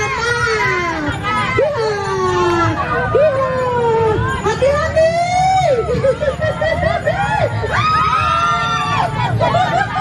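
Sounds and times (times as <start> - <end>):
high-pitched voices calling out: 0.0 - 9.1.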